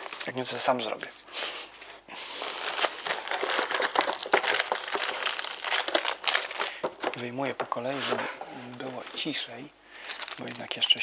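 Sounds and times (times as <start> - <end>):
plastic packaging crinkling: 0.0 - 0.9, 2.2 - 8.0, 8.7 - 11.0.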